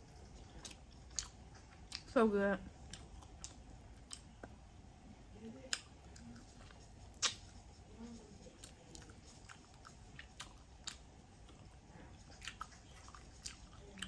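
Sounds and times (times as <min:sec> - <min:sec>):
person chewing: 0:00.0 - 0:04.7, 0:05.6 - 0:07.8, 0:08.4 - 0:14.0.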